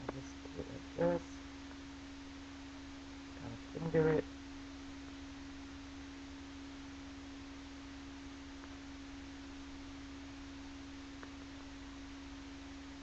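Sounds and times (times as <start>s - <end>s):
hiss and low hum: 0.0s - 13.0s
steady electrical tone: 0.0s - 13.0s.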